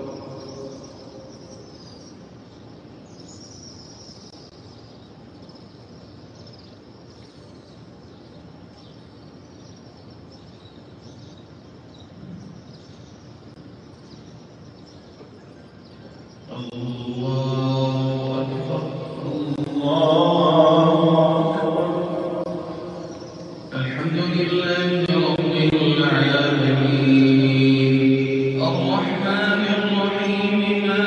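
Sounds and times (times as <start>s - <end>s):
open-air background noise: 0.0s - 31.0s
small birds chirping faintly: 0.0s - 31.0s.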